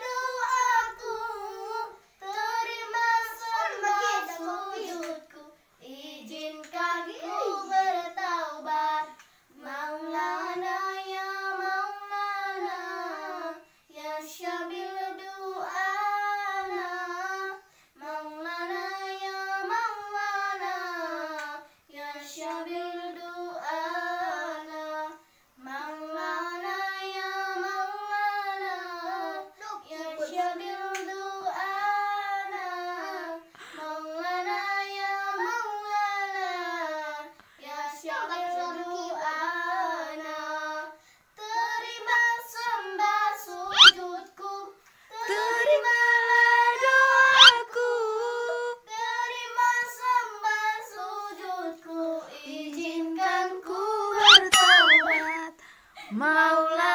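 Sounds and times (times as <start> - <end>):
children singing unaccompanied: 0.0 - 25.2, 34.0 - 56.9.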